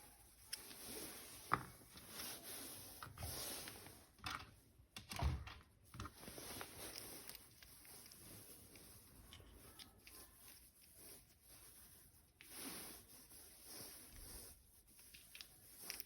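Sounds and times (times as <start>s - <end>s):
plastic toys clicking and rubbing: 0.0s - 16.0s.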